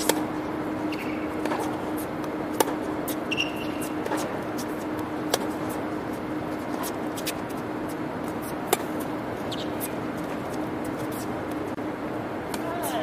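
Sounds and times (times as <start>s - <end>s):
racket hitting tennis ball: 0.0s - 11.6s
steady hum and hiss: 0.0s - 13.0s.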